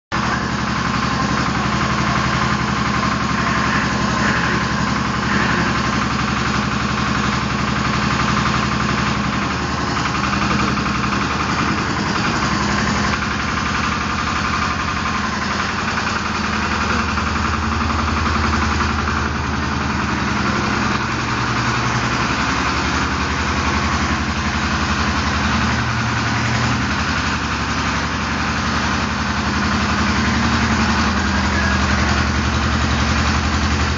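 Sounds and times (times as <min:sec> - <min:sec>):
walking tractor engine running: 0:00.1 - 0:33.9.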